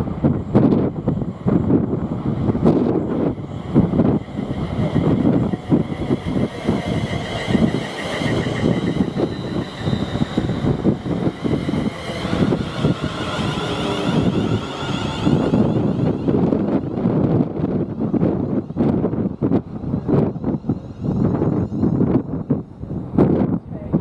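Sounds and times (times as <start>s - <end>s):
high train whine: 0.0s - 24.0s
train rumbling: 0.0s - 24.0s.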